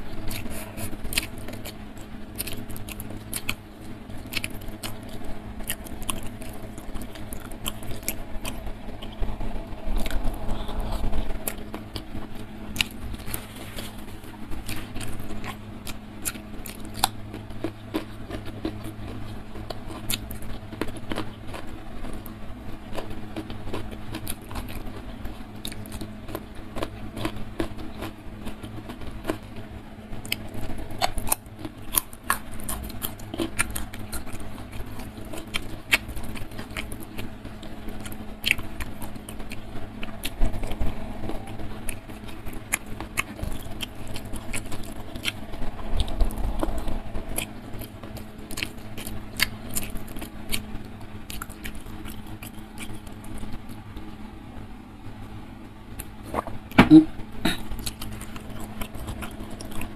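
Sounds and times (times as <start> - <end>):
chewing and lip smacking: 0.0 - 54.2, 56.0 - 59.9
faint low hum: 0.0 - 59.9.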